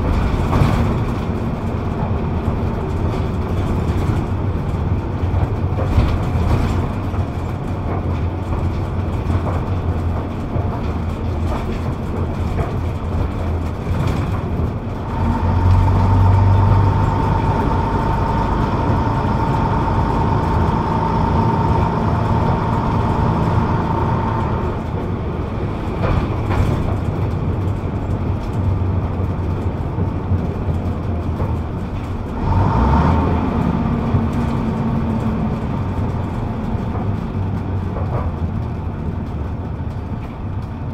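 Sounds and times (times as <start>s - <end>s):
bus engine drone: 0.0s - 40.9s.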